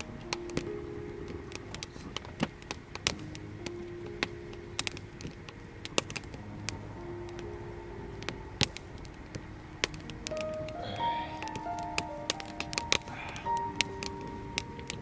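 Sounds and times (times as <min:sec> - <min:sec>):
campfire crackling and popping: 0:00.0 - 0:15.0
soft background music: 0:00.0 - 0:15.0.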